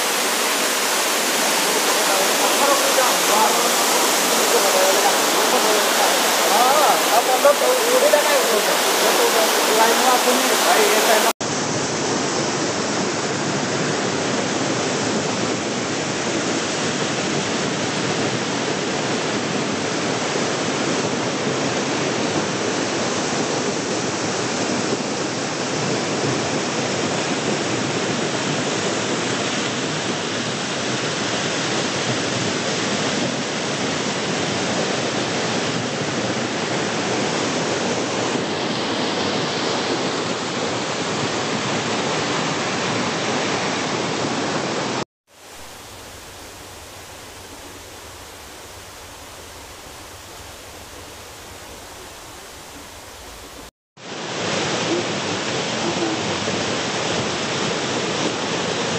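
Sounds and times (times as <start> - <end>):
waterfall pouring over rocks: 0.0 - 38.4, 39.2 - 58.9.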